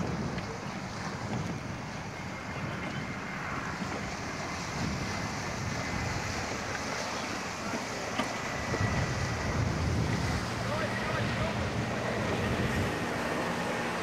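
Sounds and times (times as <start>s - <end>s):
water rushing past boat: 0.0s - 14.0s
wind buffeting microphone: 0.0s - 14.0s.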